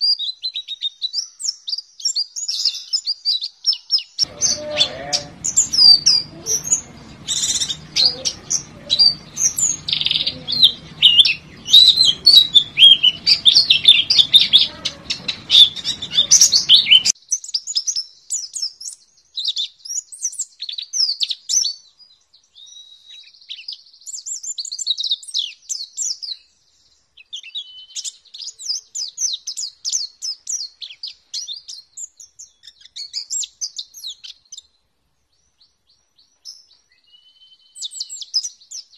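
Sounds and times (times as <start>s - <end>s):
bird singing high chirps and trills: 0.0s - 38.9s.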